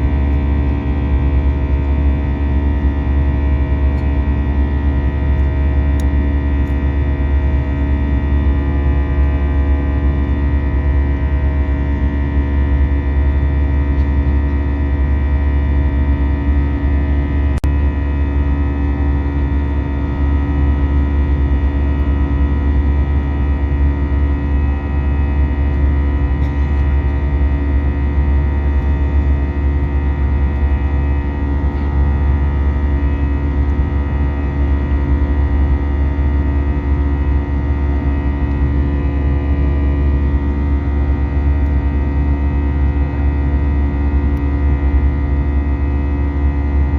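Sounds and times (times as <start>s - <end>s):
jet engine and airflow drone: 0.0s - 46.9s.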